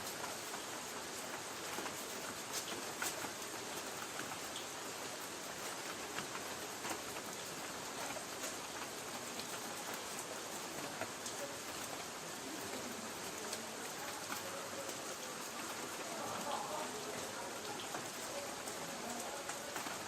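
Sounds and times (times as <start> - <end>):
rain on a tin roof: 0.0 - 20.0
raindrops ticking on metal: 0.0 - 20.0.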